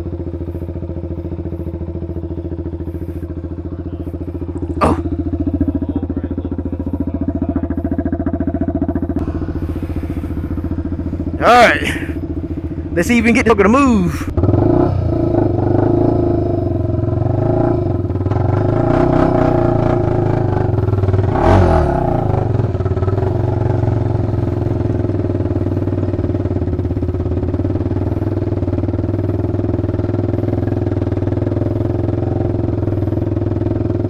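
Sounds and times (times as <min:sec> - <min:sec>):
quad engine pulling through mud: 0:00.0 - 0:34.0.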